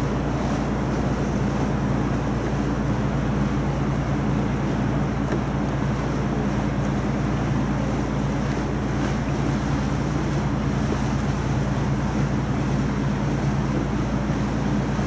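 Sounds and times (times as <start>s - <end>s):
boat engine droning: 0.0s - 15.0s
wind and water rushing: 0.0s - 15.0s.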